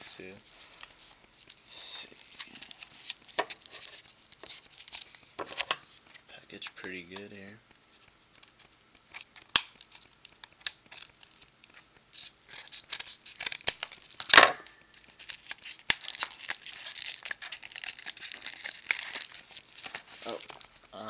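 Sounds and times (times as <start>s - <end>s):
crinkling and tearing of envelope: 0.0s - 21.0s.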